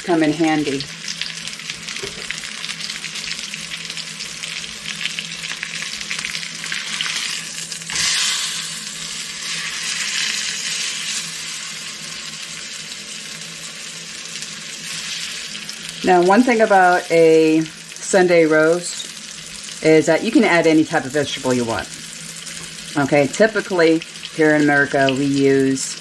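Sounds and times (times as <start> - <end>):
meat sizzling and crackling: 0.1 - 26.0.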